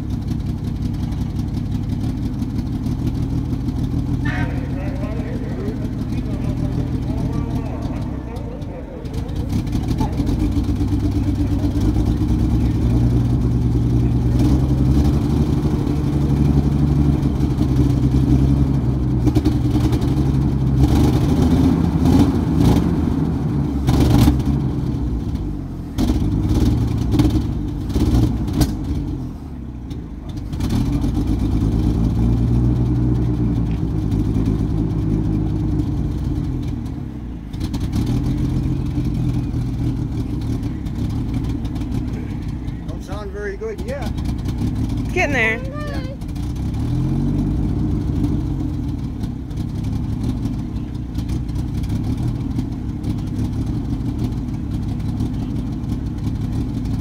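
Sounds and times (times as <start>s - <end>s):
engine revving: 2.4s - 29.3s, 37.5s - 57.0s.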